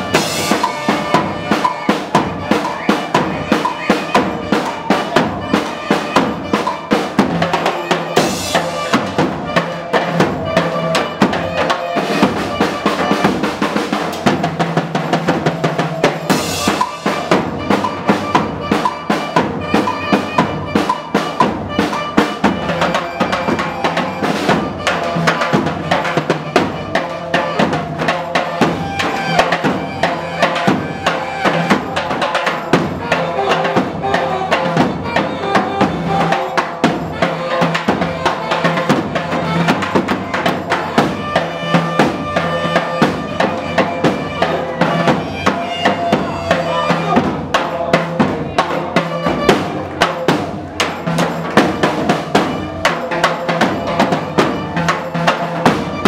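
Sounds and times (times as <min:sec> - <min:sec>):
saxophone melody: 0:00.0 - 0:14.7, 0:15.3 - 0:56.0
large drums beating: 0:00.0 - 0:56.0.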